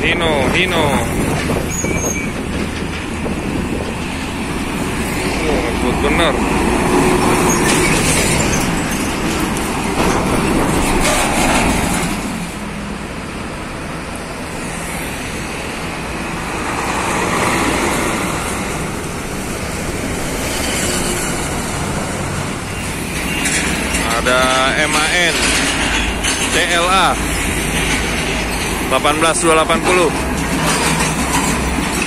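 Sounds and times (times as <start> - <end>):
diesel trucks passing: 0.0 - 32.0.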